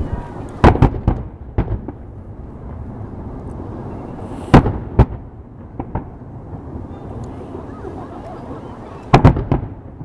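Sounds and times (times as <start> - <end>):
fireworks bangs: 0.0 - 2.8, 3.6 - 10.0
low rumble of fireworks bursts: 0.0 - 10.0.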